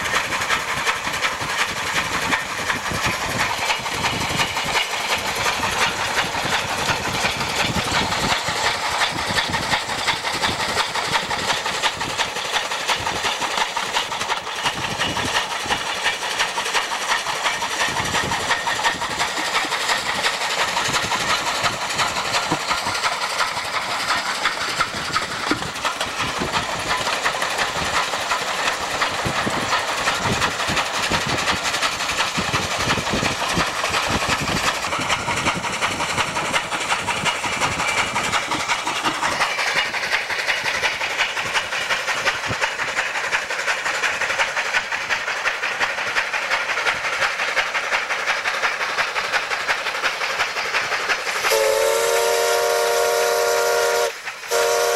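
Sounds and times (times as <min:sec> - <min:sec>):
clatter of rods and wheels: 0:00.0 - 0:51.6
steam hissing: 0:00.0 - 0:54.9.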